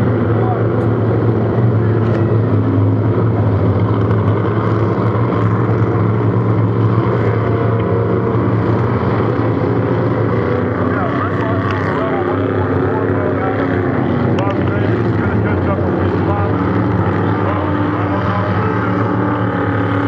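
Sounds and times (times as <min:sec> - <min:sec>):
racing boat engines droning: 0:00.0 - 0:20.0.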